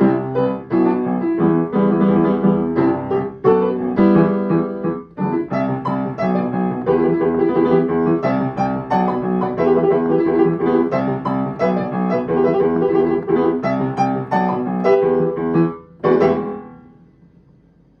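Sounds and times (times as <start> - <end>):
piano music: 0.0 - 17.1.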